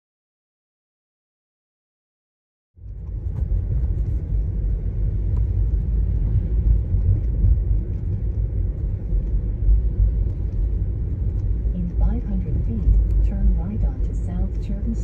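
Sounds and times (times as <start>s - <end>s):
road and tyre rumble: 2.8s - 15.0s.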